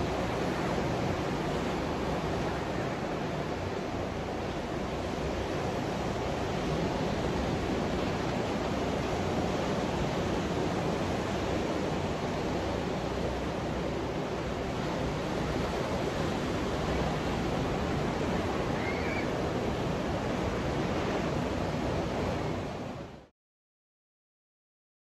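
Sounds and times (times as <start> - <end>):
ocean surf breaking: 0.0 - 23.2.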